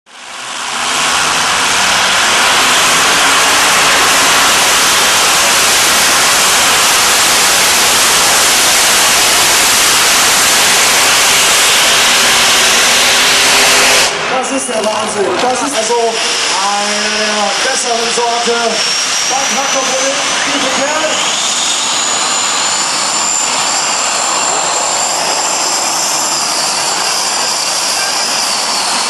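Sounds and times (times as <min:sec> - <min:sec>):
tractor engines roaring: 0:00.1 - 0:29.0.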